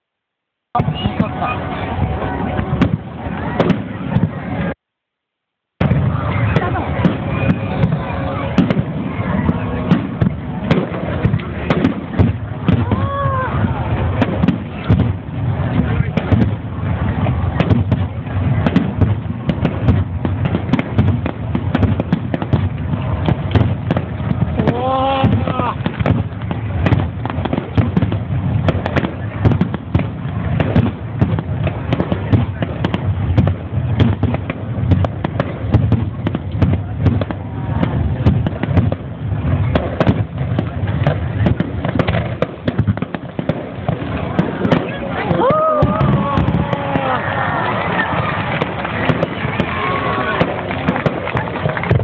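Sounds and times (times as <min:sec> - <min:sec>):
fireworks bangs and crackles: 0:00.7 - 0:04.9, 0:05.6 - 0:52.0.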